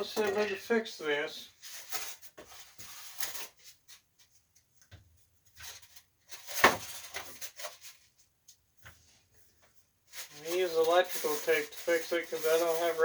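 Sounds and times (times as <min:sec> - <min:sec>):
rustling: 0:01.4 - 0:13.0.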